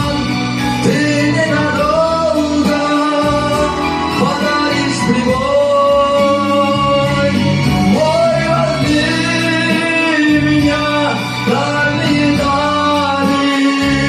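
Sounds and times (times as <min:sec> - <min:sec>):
instrumental backing music: 0:00.0 - 0:14.0.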